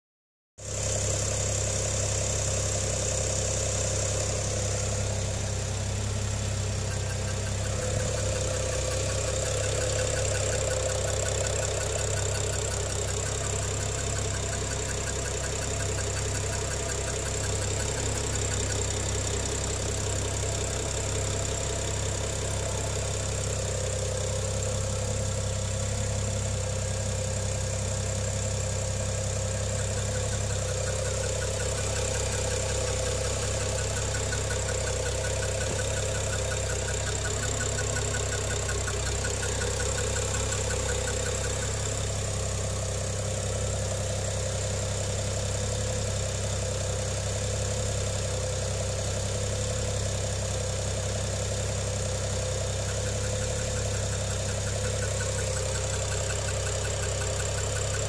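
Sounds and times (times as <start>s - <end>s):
abnormal engine noise: 0.6s - 58.0s
car engine idling: 0.6s - 58.0s.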